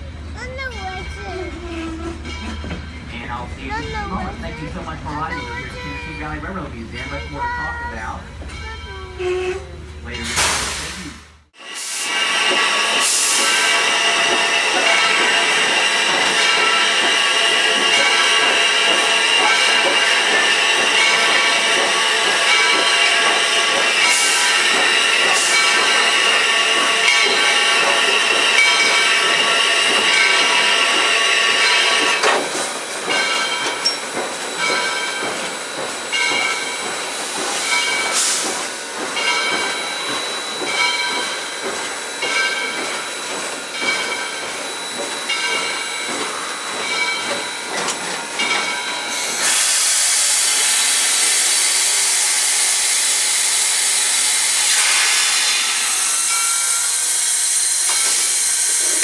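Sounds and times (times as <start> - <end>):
steam hissing: 9.0 - 59.0.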